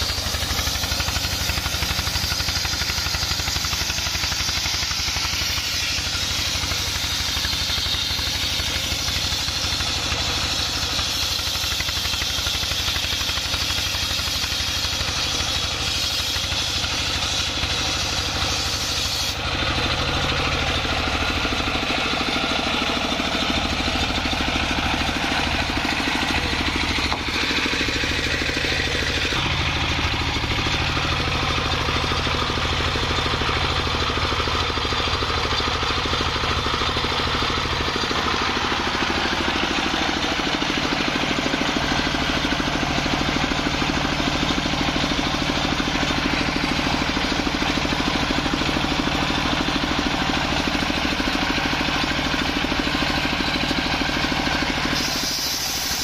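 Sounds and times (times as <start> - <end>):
circular saw blade spinning: 0.0 - 56.0
diesel engine running: 0.0 - 56.0.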